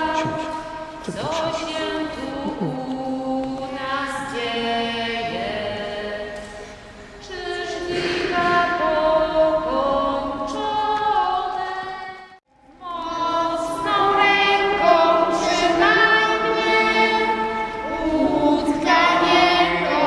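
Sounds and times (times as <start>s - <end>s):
children and woman singing: 0.0s - 6.6s, 7.2s - 20.0s.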